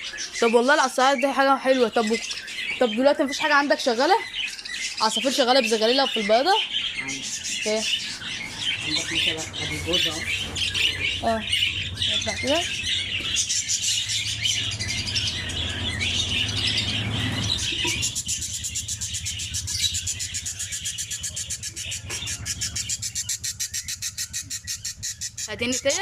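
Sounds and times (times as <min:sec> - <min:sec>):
caged birds chattering and chirping: 0:00.0 - 0:26.0.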